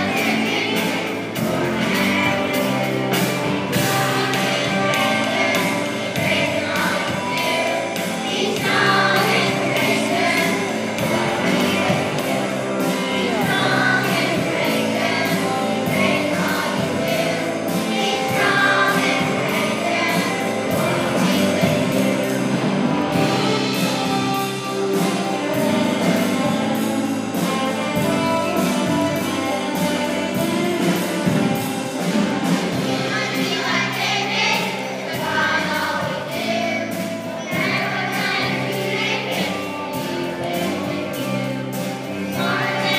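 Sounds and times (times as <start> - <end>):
gospel choir with full band: 0.0 - 42.9.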